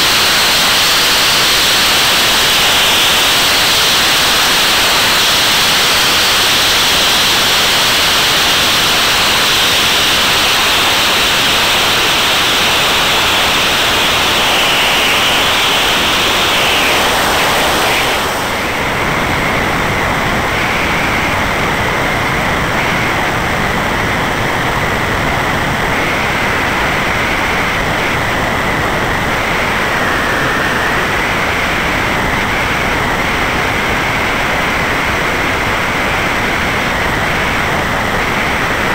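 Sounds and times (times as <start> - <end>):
aircraft engine and propeller: 0.0 - 38.9
rushing wind noise: 0.0 - 38.9
steady high whine: 0.0 - 38.9.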